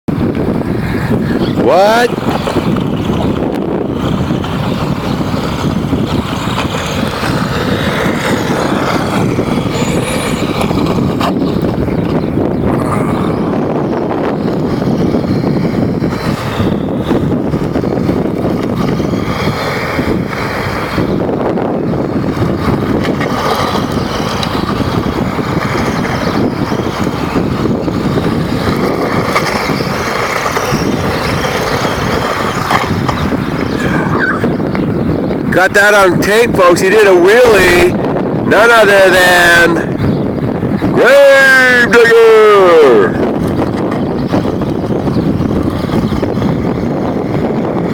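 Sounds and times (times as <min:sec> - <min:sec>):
wind buffeting microphone: 0:00.1 - 0:47.9
small engine running: 0:00.4 - 0:35.1, 0:42.6 - 0:47.9.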